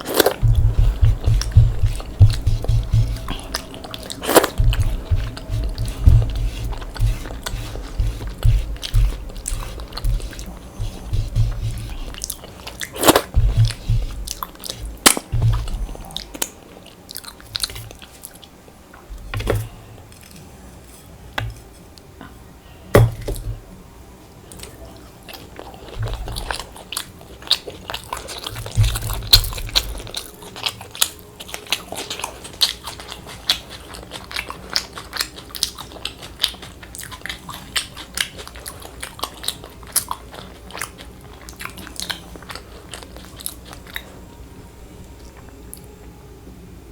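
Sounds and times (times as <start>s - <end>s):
chewing and crunching food: 0.0s - 20.9s, 24.4s - 46.2s.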